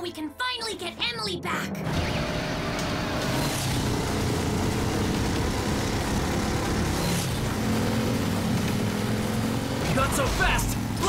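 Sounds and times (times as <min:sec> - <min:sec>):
cartoon vehicle engines rumbling: 0:01.3 - 0:11.0.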